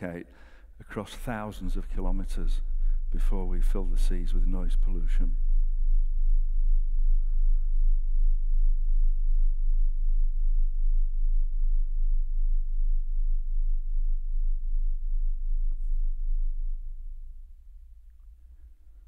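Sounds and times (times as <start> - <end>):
whale song deep drone: 1.1 - 19.0.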